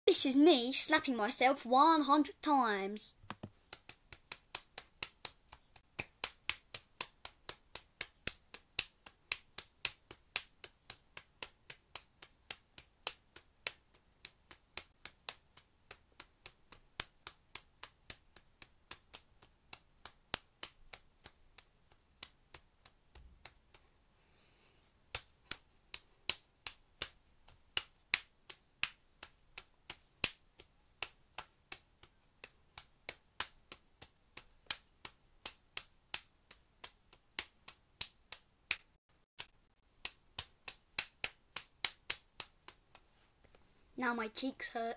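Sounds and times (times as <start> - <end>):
palms slapping bare cheeks: 3.2 - 23.8, 24.8 - 43.2.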